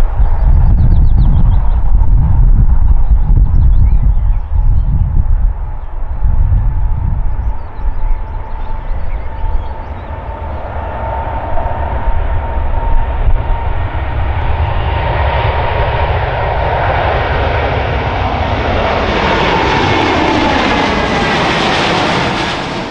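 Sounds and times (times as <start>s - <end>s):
jet engine whine: 0.0s - 22.9s
jet engines rumbling: 0.0s - 22.9s.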